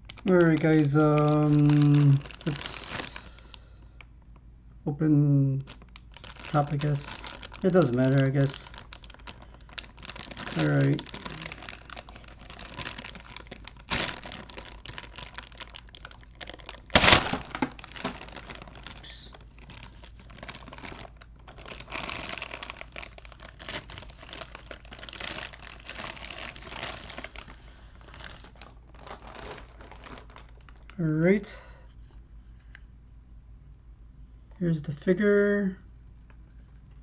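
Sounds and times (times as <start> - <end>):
packaging crinkling and rustling: 0.0 - 4.4, 5.6 - 31.0.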